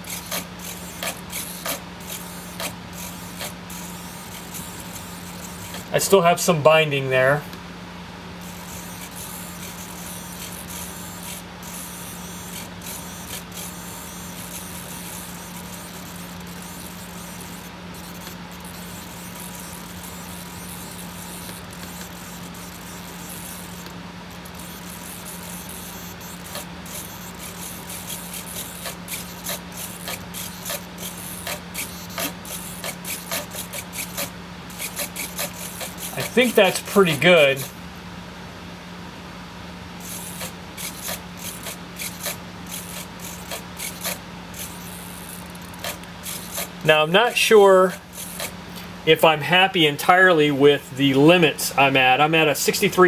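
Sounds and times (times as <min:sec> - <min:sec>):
irregular clicks: 0:00.0 - 0:06.0, 0:08.4 - 0:37.8, 0:40.0 - 0:46.9, 0:47.9 - 0:48.9
servo buzzing: 0:00.0 - 0:38.0, 0:39.9 - 0:49.9.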